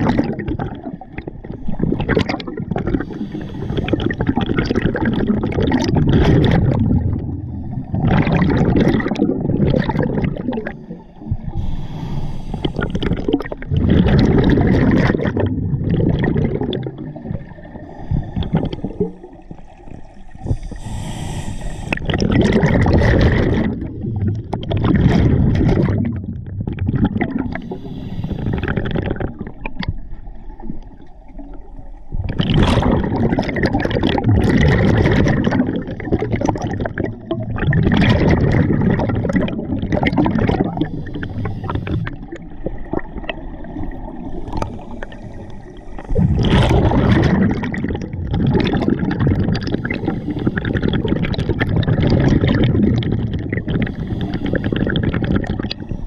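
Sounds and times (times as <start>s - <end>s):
diver exhaling bubbles underwater: 0.0s - 56.0s.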